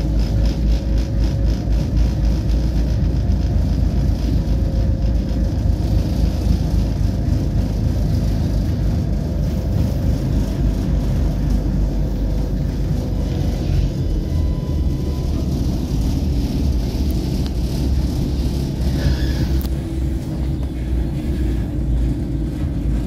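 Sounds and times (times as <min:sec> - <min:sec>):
faint whine: 0:00.0 - 0:23.0
tram wheels rumbling on rails: 0:00.0 - 0:23.0.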